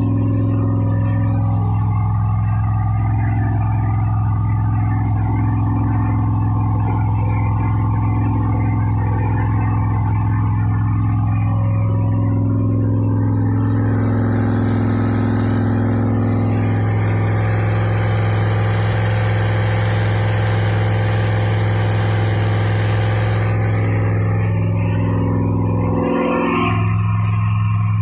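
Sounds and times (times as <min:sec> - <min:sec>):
car engine running steadily: 0:00.0 - 0:28.0.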